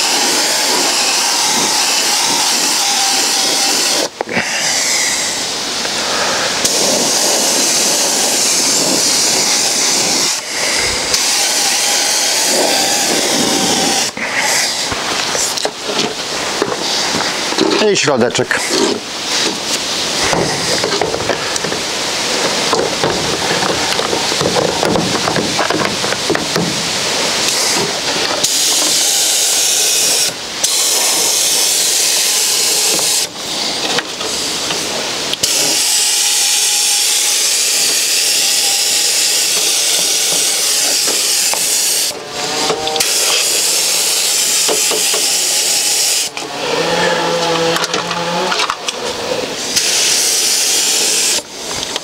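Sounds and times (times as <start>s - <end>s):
paint spray gun hissing: 0.0s - 17.7s, 18.6s - 46.5s, 49.6s - 52.0s.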